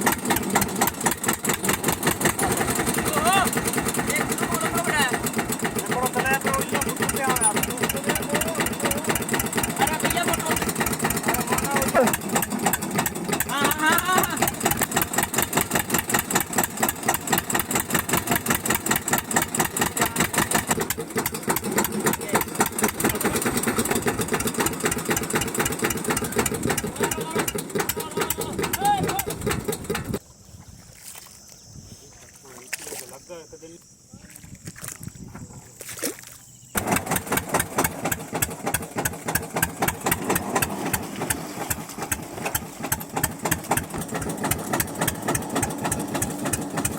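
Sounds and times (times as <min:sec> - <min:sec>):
tractor diesel engine running: 0:00.0 - 0:30.2, 0:36.8 - 0:46.9.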